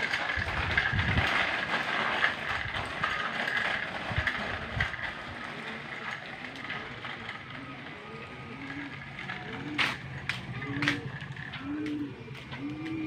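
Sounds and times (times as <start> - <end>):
bicycle rattling over concrete: 0.0 - 13.0.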